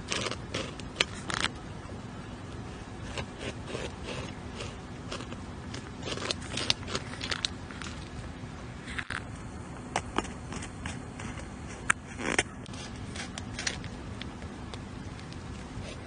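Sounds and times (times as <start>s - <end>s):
beaver gnawing wood: 0.0s - 1.6s, 3.0s - 8.2s, 10.0s - 16.0s.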